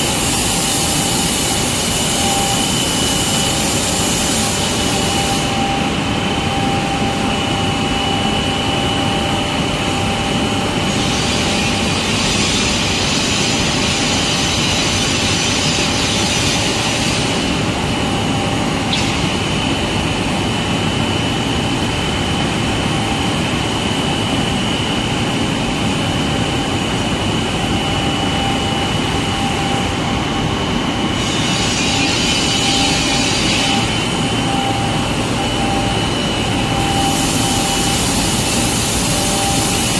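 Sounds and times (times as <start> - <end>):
factory machinery drone and whine: 0.0 - 39.9.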